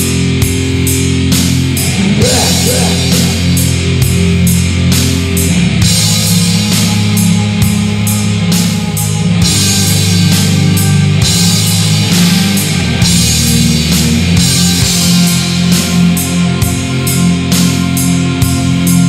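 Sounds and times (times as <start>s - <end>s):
death metal band playing: 0.0s - 19.0s
distorted guitar chords: 0.0s - 19.0s.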